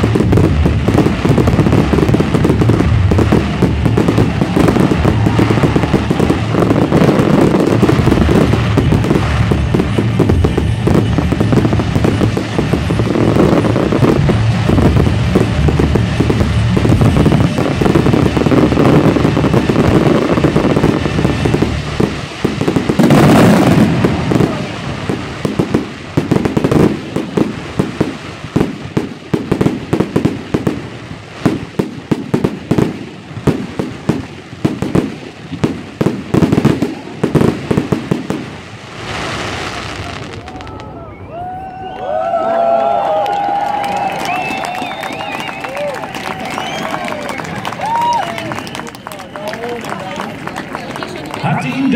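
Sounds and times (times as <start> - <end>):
fireworks bursts and crackling: 0.0 - 51.9
loud firework burst: 0.0 - 51.9.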